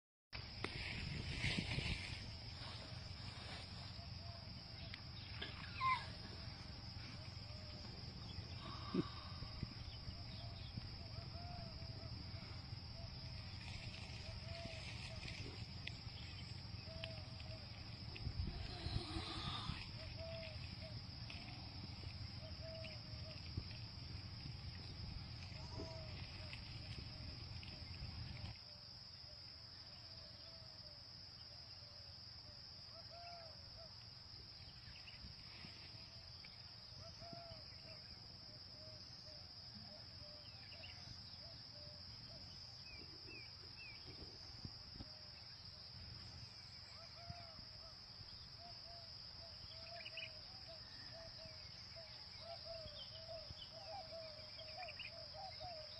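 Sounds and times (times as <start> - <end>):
insects droning: 0.4 - 55.9.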